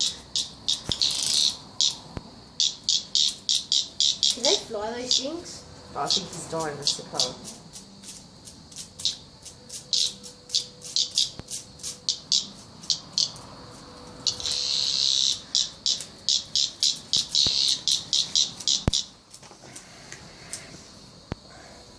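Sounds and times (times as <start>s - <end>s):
cicada distress buzzing: 0.0s - 21.9s.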